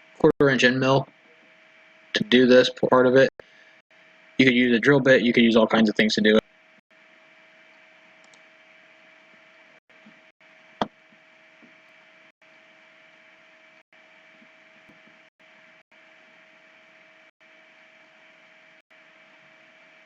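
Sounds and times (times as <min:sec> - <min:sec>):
low electrical hiss and hum: 0:00.0 - 0:20.0.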